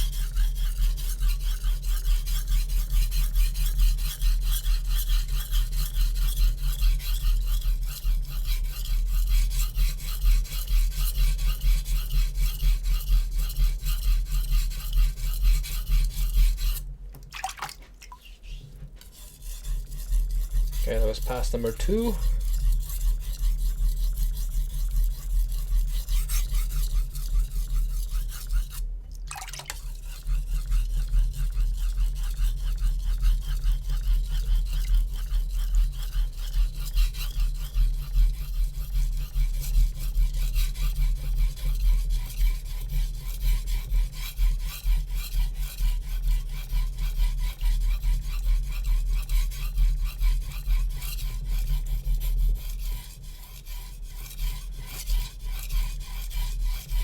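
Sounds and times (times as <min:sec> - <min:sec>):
knife scraping on whetstone: 0:00.0 - 0:16.8, 0:18.2 - 0:28.9, 0:29.6 - 0:57.0.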